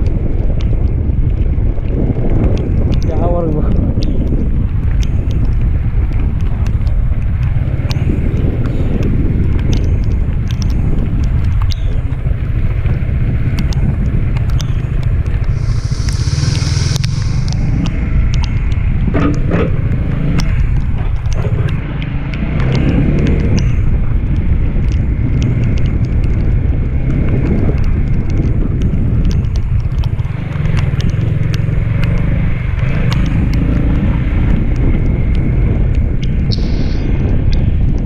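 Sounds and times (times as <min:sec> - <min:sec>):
motorcycle engine running: 0:00.0 - 0:38.0
sharp ticks: 0:00.0 - 0:38.0
wind rumble on microphone: 0:00.0 - 0:38.0.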